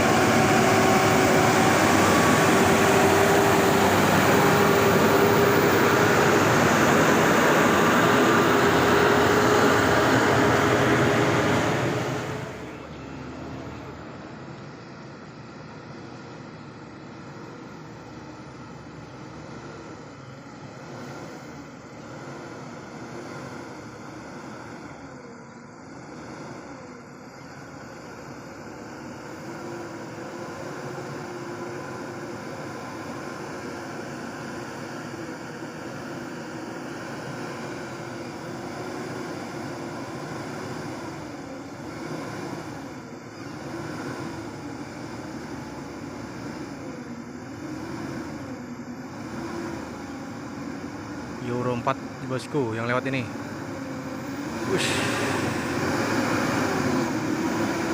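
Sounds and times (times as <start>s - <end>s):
diesel truck engine under load: 0.0s - 57.9s.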